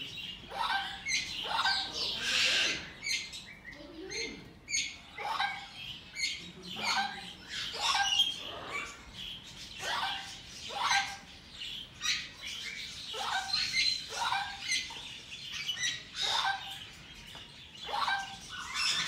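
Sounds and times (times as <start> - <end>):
parrots chirping: 0.0 - 19.0.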